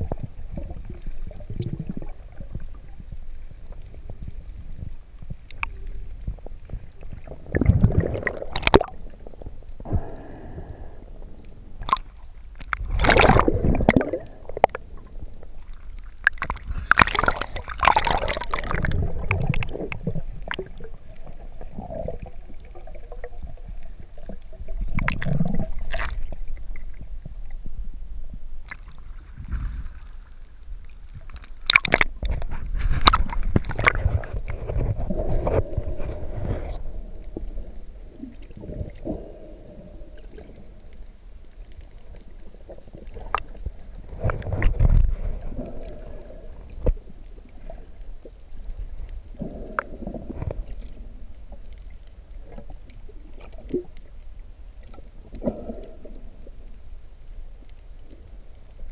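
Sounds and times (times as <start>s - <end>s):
water sloshing underwater: 0.0s - 58.9s.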